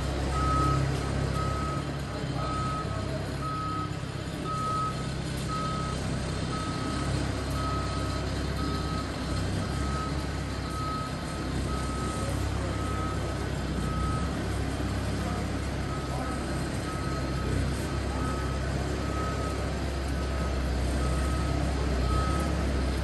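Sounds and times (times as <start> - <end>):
engine running: 0.0 - 23.0
reversing alarm beeping: 0.2 - 22.8.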